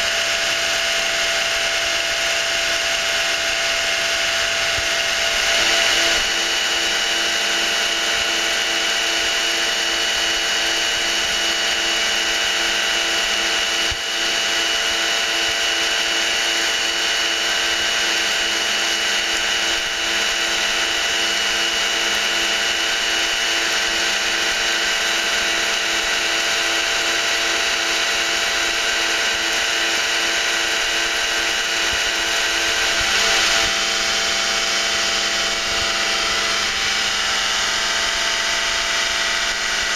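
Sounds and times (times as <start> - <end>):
pump motor humming with pulse: 0.0 - 39.9.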